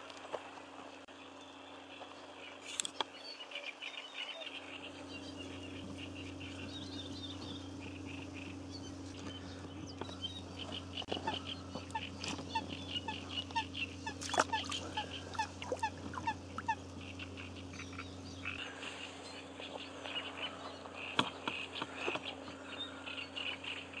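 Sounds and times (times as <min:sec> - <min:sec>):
faint steady hum: 0:00.0 - 0:24.0
frogs chirping in chorus: 0:03.3 - 0:24.0.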